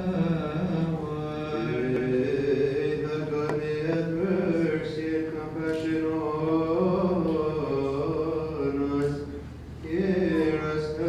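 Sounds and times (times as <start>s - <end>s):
men chanting: 0.0s - 9.3s, 9.9s - 11.0s.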